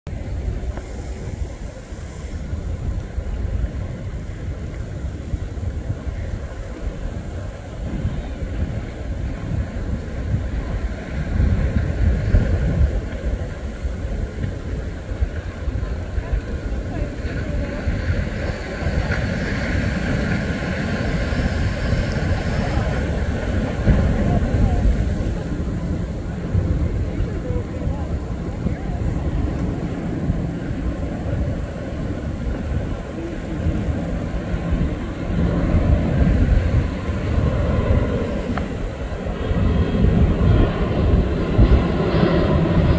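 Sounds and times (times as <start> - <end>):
jet airliner rumble: 0.0 - 42.9
wind buffeting microphone: 0.1 - 42.9.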